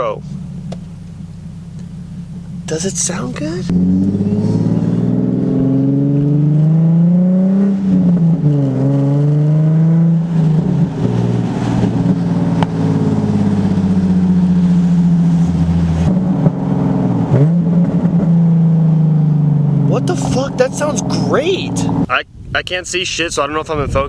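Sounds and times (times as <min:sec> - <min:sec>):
car exhaust from inside cabin: 0:00.0 - 0:22.1.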